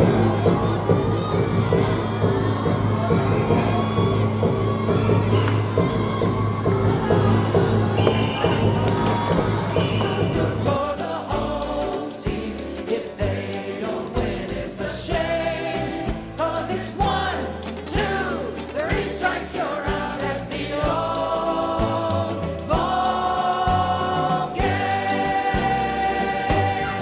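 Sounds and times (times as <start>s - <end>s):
bass line: 0.0s - 27.0s
choir-like singing voices: 0.0s - 27.0s
steady beat: 0.0s - 27.0s.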